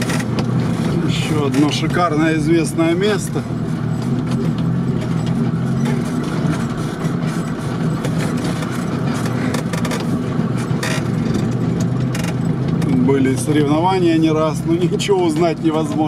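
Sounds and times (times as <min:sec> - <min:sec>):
off-road vehicle engine running: 0:00.0 - 0:16.0
vehicle knocks and rattles: 0:00.0 - 0:16.0.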